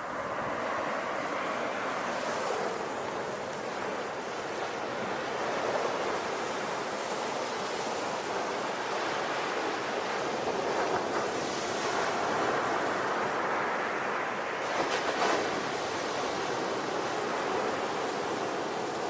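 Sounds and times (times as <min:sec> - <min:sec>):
sea waves washing on shore: 0:00.0 - 0:19.0
wind: 0:00.0 - 0:19.0.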